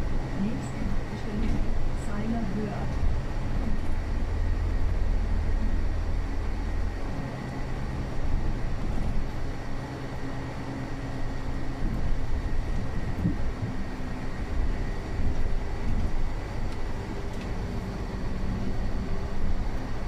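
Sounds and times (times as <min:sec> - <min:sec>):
bus engine deep rumble: 0:00.0 - 0:20.0.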